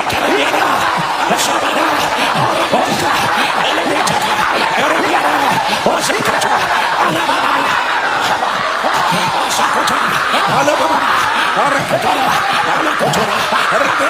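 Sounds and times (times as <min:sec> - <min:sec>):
congregation praying aloud: 0:00.0 - 0:14.0.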